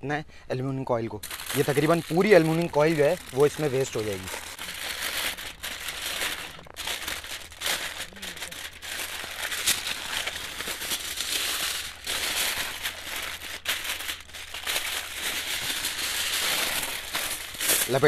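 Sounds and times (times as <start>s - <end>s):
aluminium foil crinkling: 1.2s - 18.0s.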